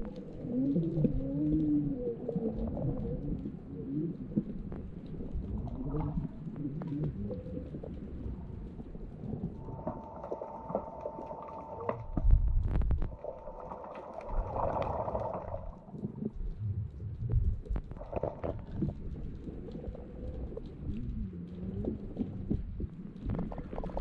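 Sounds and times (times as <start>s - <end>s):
faint steady hum: 0.0s - 24.0s
underwater water sloshing: 0.0s - 24.0s.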